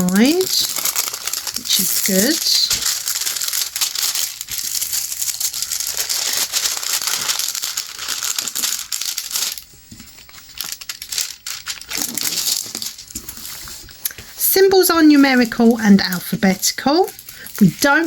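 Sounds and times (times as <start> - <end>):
plastic wrapping crinkling: 0.0 - 18.0.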